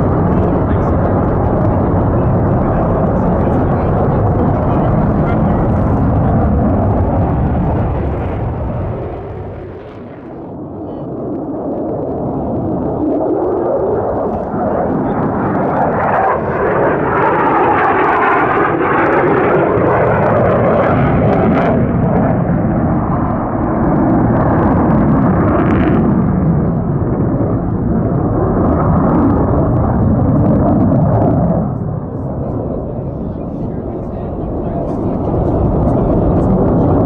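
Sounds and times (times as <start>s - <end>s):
jet flying overhead: 0.0s - 37.0s
sharp crackles in jet noise: 0.0s - 37.0s.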